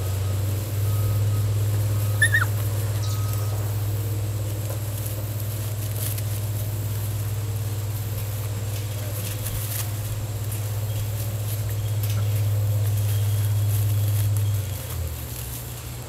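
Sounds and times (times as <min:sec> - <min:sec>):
puppies scuffling in straw: 0:00.0 - 0:16.0
steady low hum: 0:00.0 - 0:16.0.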